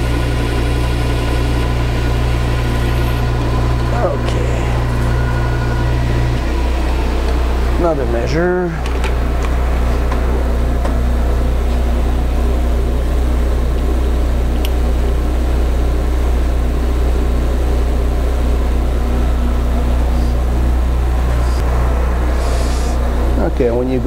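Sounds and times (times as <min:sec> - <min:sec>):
shop machinery drone: 0:00.0 - 0:24.0.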